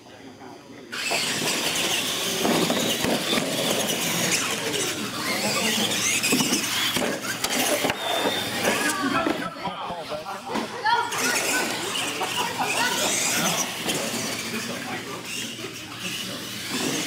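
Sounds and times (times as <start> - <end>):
electric motors whining: 0.4 - 17.0.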